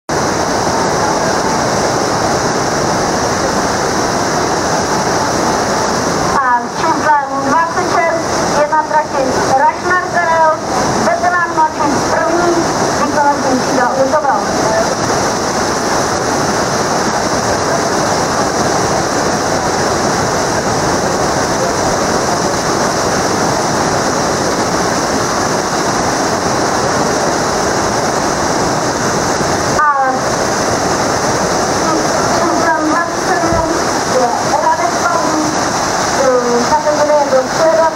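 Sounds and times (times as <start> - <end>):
whitewater rapids roaring: 0.1 - 37.9.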